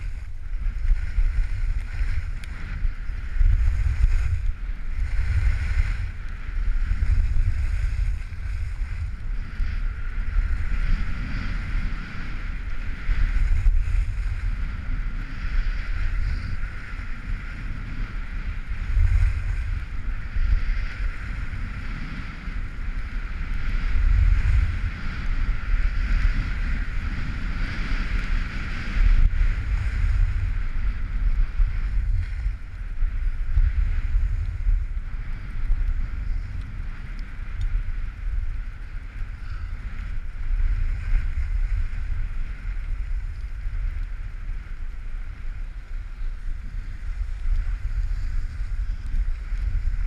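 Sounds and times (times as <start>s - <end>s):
skis sliding on snow: 0.0s - 50.0s
wind buffeting microphone: 0.0s - 50.0s.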